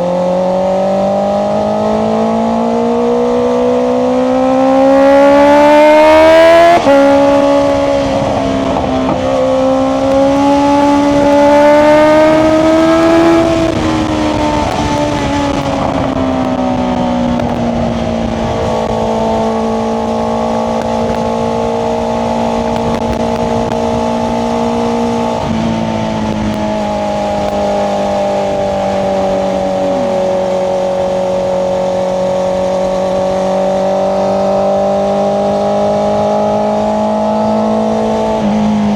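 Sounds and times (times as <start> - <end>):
motorcycle engine accelerating hard: 0.0 - 38.9
gear change: 1.2 - 38.9.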